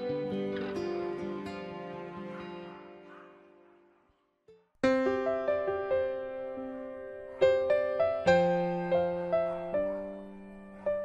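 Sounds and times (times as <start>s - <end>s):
piano music: 0.0s - 3.2s, 4.8s - 11.0s.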